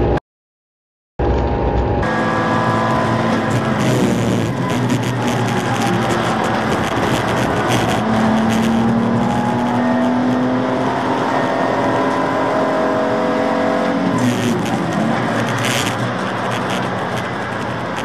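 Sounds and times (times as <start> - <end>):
race car engine at speed: 1.2 - 18.0
road and wind noise: 1.2 - 18.0.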